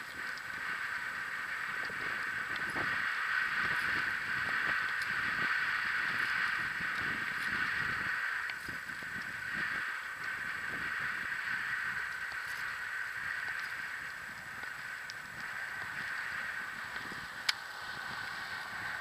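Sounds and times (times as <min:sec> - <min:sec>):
bicycle tyres rolling on pavement: 0:00.0 - 0:19.0
wind on microphone: 0:00.0 - 0:19.0.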